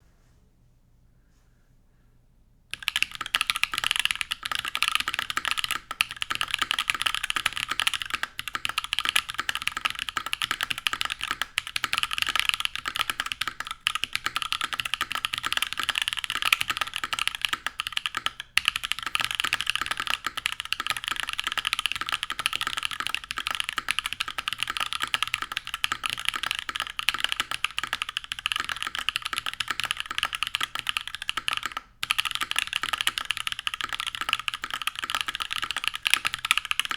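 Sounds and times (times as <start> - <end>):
fast typing on mechanical keyboard: 2.7 - 36.9.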